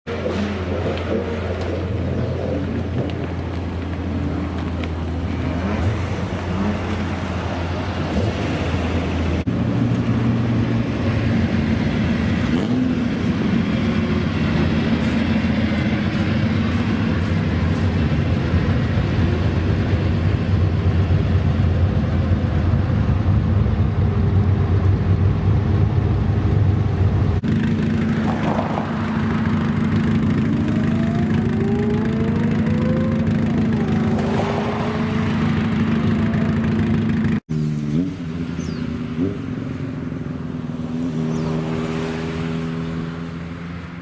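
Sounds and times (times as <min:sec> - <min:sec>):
engine revving up: 0:00.1 - 0:20.5, 0:27.4 - 0:40.2, 0:40.9 - 0:44.0
supercar engines running: 0:00.1 - 0:44.0.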